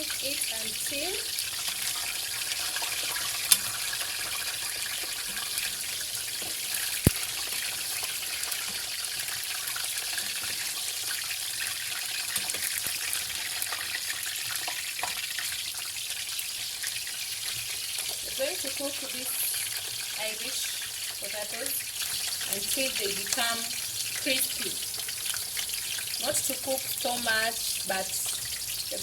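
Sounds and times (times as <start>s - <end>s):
potatoes sizzling in hot oil: 0.0s - 29.0s.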